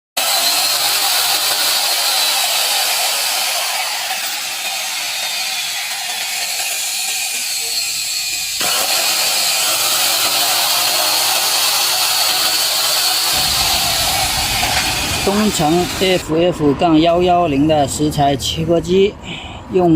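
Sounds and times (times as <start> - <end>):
electric motor high whine: 0.2 - 16.2
harsh mechanical noise: 0.2 - 18.4.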